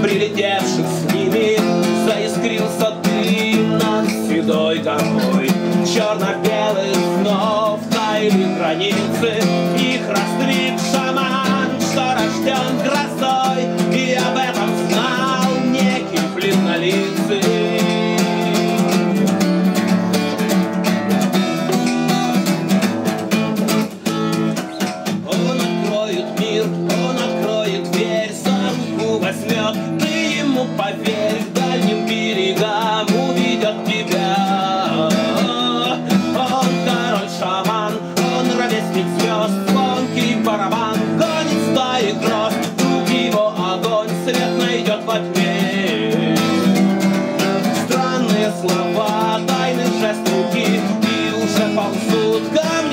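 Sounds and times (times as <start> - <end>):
man singing: 0.0 - 22.8, 23.6 - 52.9
acoustic guitar strummed: 0.0 - 52.9.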